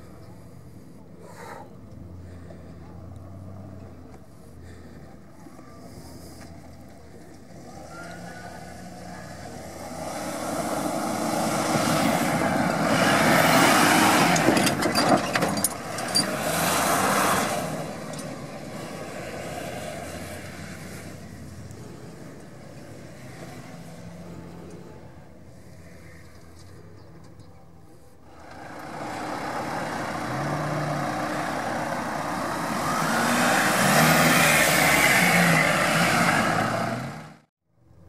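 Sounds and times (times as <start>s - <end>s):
vehicle engine and tyres on dirt: 0.0s - 38.0s.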